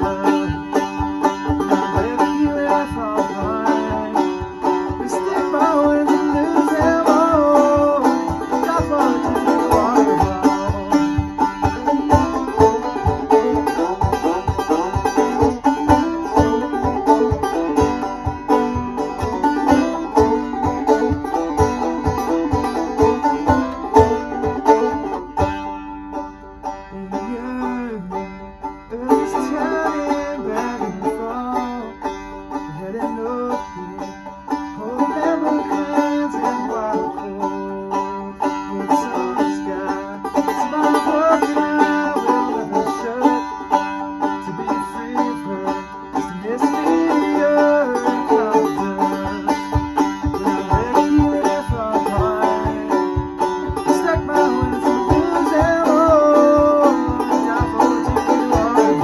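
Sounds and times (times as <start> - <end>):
banjo bluegrass instrumental: 0.0 - 59.0
steady low beat: 0.0 - 59.0.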